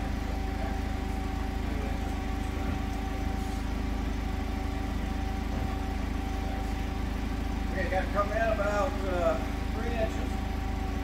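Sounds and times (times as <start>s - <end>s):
forklift engine idling: 0.0s - 11.0s
thin steady whine: 0.0s - 11.0s.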